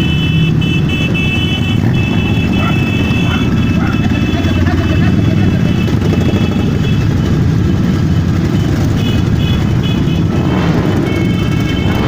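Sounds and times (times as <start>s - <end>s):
motorcycle engines droning: 0.0s - 12.0s.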